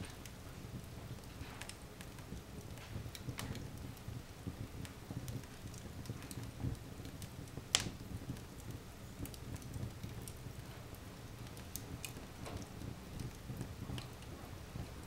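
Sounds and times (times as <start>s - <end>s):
fire burning in fireplace: 0.0s - 15.0s
fire crackling and popping: 0.0s - 15.0s.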